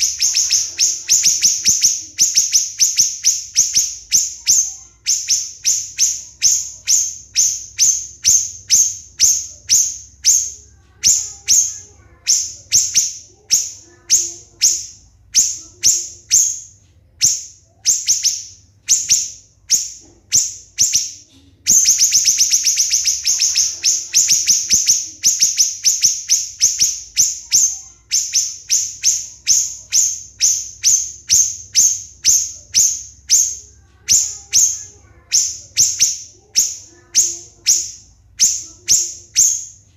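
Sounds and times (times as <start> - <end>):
bird calling in shrill notes: 0.0 - 39.8.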